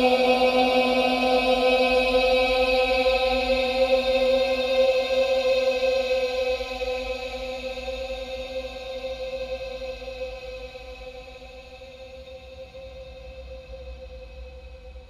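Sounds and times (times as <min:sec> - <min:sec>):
choir drone: 0:00.0 - 0:15.0.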